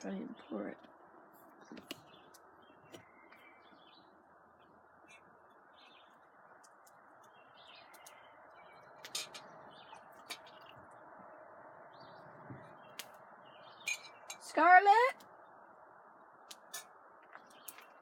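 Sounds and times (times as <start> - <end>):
faint bird chirps: 1.4 - 18.0.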